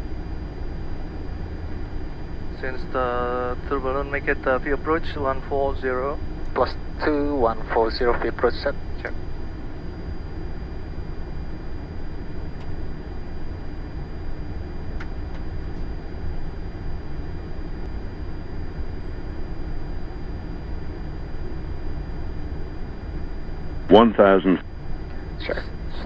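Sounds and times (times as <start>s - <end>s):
cockpit airflow and engine noise: 0.0s - 26.0s.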